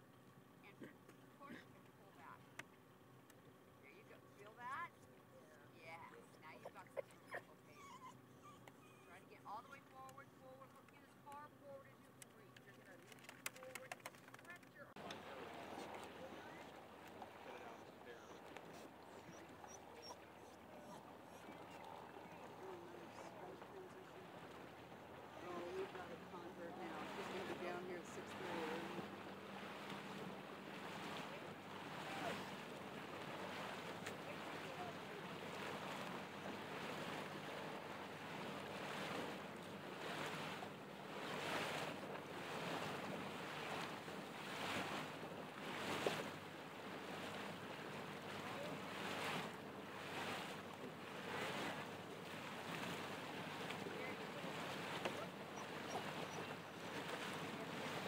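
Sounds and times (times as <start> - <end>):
outboard motor hum: 0.0 - 58.0
water splashing against boat: 6.0 - 58.0.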